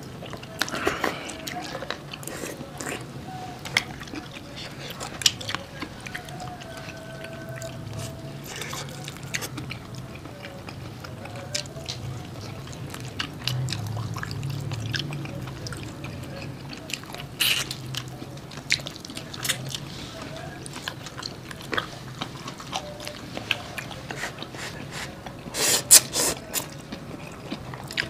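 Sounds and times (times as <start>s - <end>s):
people chewing fried chicken: 0.0s - 28.0s.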